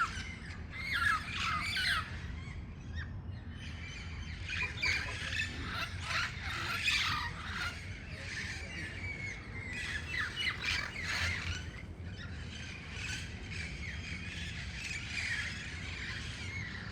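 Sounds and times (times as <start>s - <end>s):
parrots squawking: 0.0s - 2.2s, 4.2s - 13.6s, 14.4s - 16.9s.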